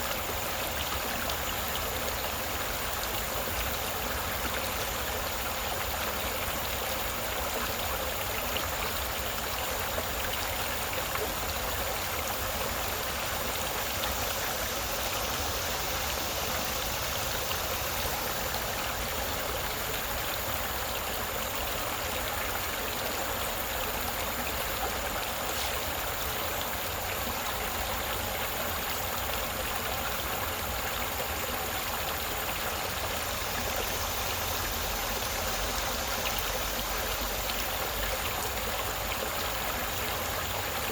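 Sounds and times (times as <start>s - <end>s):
creek water babbling over stones: 0.0s - 40.9s.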